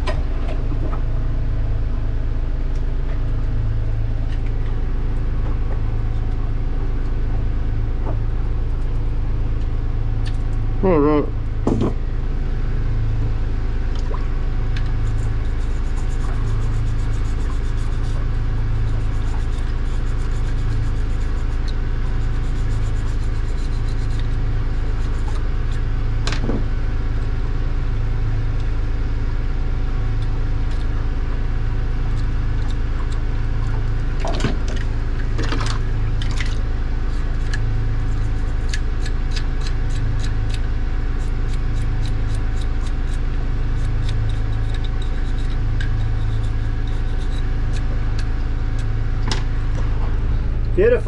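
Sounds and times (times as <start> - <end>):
boat engine low drone: 0.0 - 51.0.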